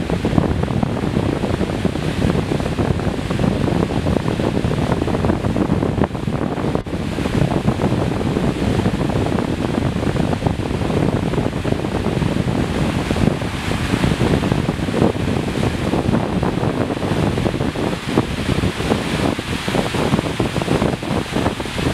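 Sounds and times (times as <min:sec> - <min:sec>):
flood water rushing: 0:00.0 - 0:21.9.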